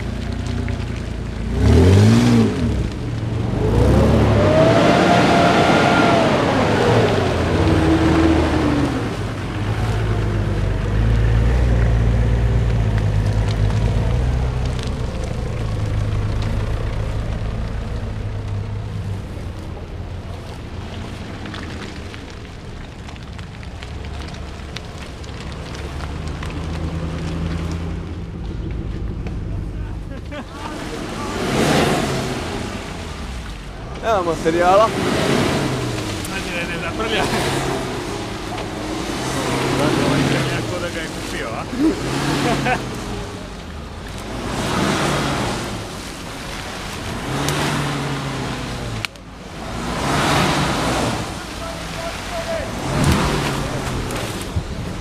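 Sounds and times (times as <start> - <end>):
engine revving: 0.0 - 18.5, 25.3 - 55.0
engines driving past: 0.0 - 55.0.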